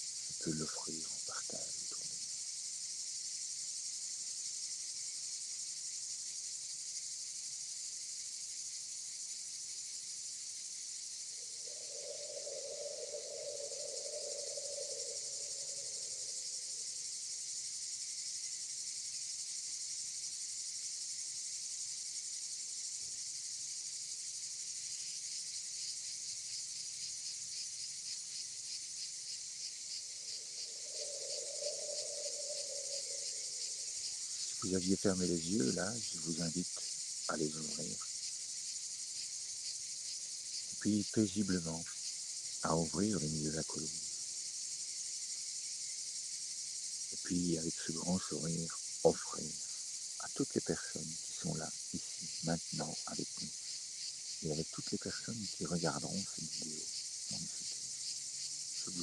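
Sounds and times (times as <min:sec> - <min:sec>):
insects chirping in chorus: 0:00.0 - 0:59.0.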